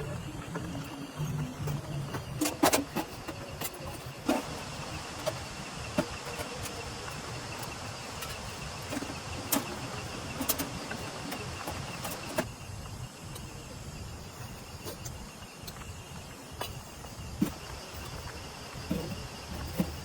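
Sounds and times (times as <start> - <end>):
high insect trill: 0.0 - 20.0
rain hiss: 0.0 - 20.0.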